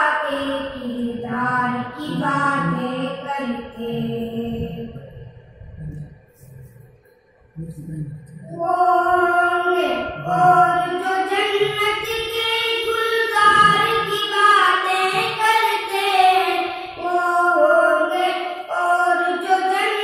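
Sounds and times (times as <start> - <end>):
boys singing devotional song: 0.0 - 5.9, 8.4 - 20.0.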